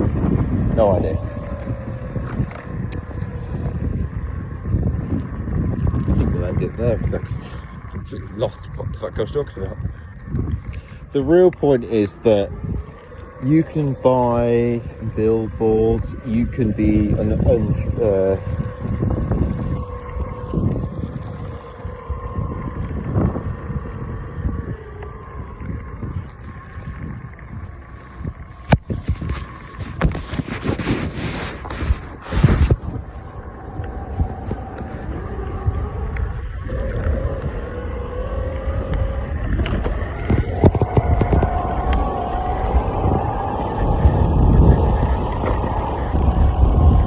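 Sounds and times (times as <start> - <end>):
electric motor whine: 0.0 - 47.0
wheels rumbling on road: 0.0 - 47.0
wind buffeting microphone: 0.0 - 47.0.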